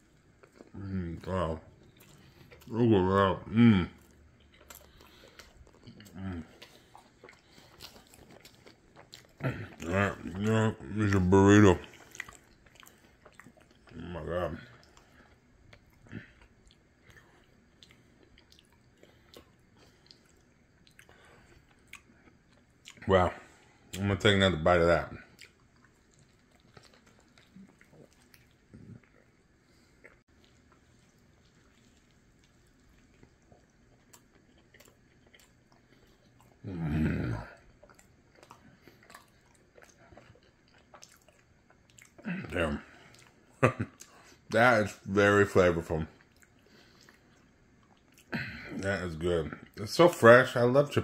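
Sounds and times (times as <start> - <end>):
faint chewing: 0.0 - 24.0, 24.7 - 50.3.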